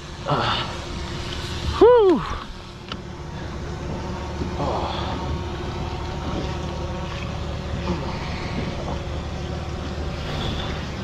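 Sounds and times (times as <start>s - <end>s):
steady low hum: 0.0s - 11.0s
water moving around kayak: 0.0s - 11.0s.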